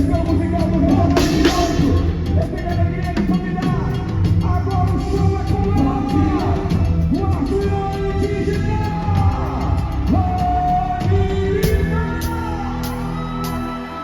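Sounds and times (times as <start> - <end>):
percussion beat: 0.0 - 14.0
voices singing a melody: 0.0 - 14.0.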